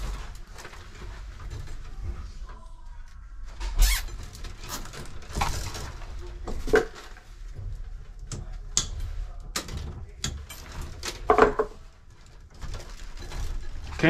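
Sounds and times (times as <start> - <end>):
rustles and knocks: 0.0 - 14.0.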